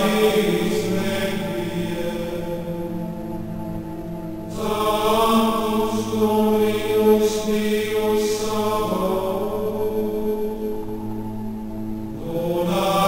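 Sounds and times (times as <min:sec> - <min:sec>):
chant-like voices: 0:00.0 - 0:13.0
steady drone: 0:00.0 - 0:13.0.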